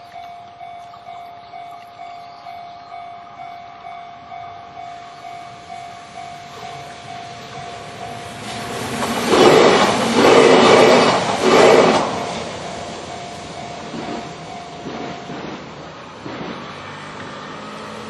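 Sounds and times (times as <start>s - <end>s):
level crossing warning bell: 0.0s - 16.0s
electric train passing: 0.0s - 18.0s.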